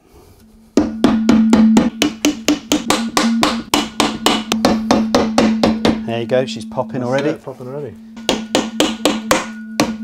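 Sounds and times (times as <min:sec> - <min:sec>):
hammer tapping on metal: 0:00.8 - 0:07.4, 0:08.1 - 0:10.0.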